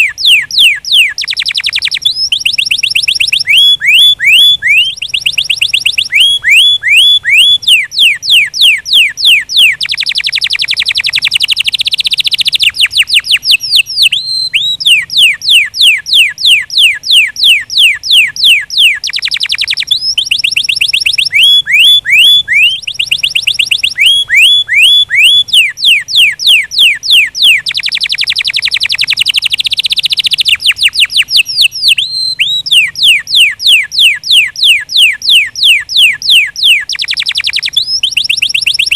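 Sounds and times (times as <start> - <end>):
canary singing: 0.0 - 38.9
fast rolling bird trill: 0.0 - 38.9.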